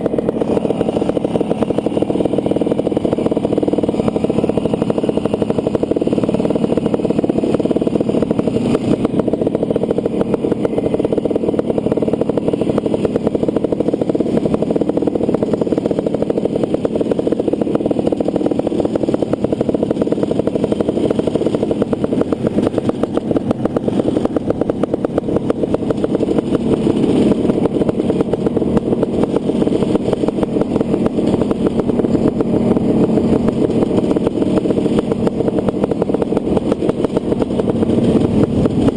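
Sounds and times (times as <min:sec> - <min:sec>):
two-stroke motorcycle engine running: 0:00.0 - 0:38.9.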